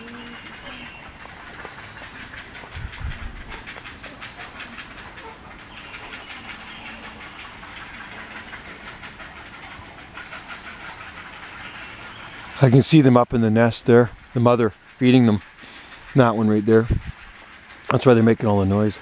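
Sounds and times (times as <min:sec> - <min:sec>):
heron chicks clacking and chattering: 0:00.0 - 0:19.0.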